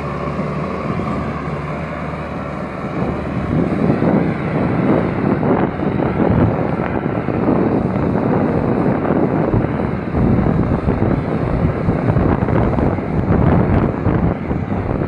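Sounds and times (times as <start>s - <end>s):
tractor engine under load: 0.0s - 15.0s
wind buffeting microphone: 0.0s - 15.0s.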